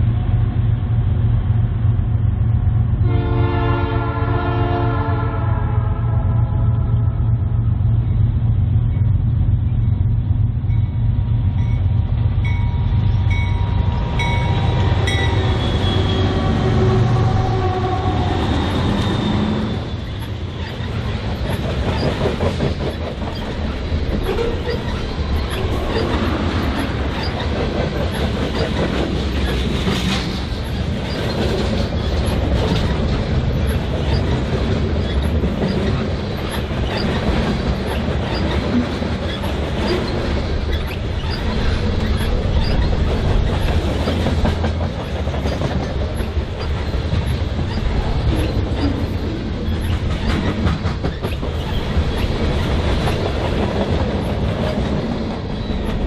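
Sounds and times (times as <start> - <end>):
diesel locomotives rumbling: 0.0 - 56.0
train wheels clattering on rail joints: 9.8 - 56.0.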